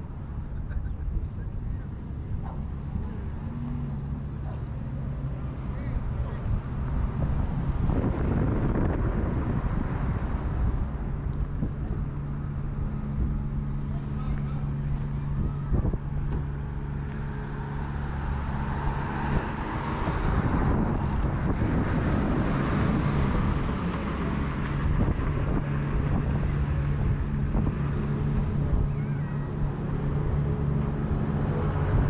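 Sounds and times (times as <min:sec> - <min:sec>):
idling vehicles engine hum: 0:00.0 - 0:32.0
vehicle passing: 0:01.7 - 0:32.0.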